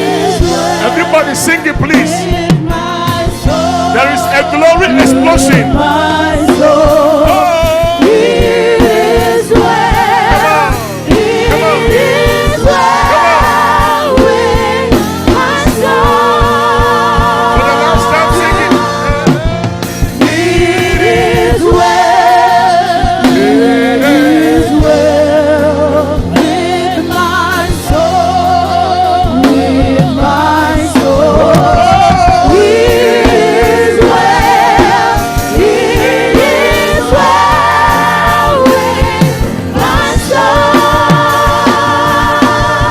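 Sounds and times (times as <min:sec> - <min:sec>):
band with bass and drums: 0:00.0 - 0:42.9
singers with vibrato: 0:00.0 - 0:42.9.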